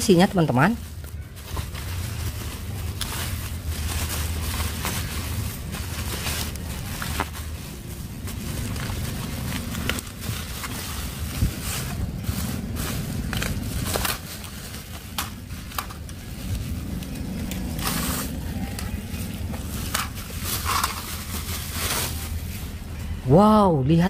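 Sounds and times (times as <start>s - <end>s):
bubble wrap rustling and crinkling: 0.0s - 23.2s
steady low rumble: 0.0s - 24.0s.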